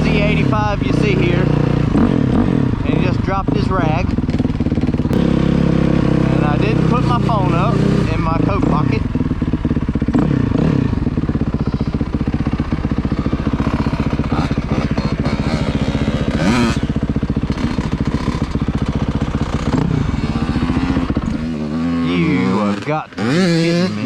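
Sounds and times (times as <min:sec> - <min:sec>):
dirt bike engine idling and revving: 0:00.0 - 0:24.0.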